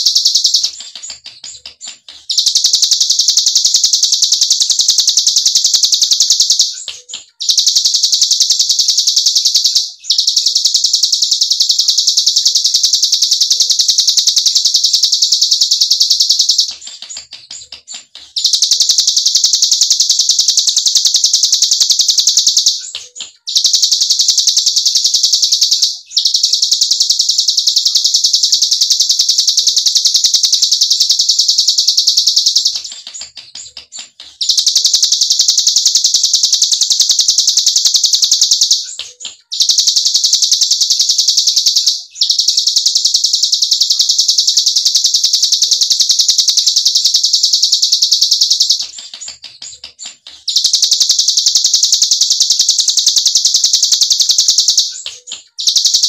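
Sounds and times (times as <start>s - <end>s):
bird singing rapid high trill: 0.0s - 56.0s.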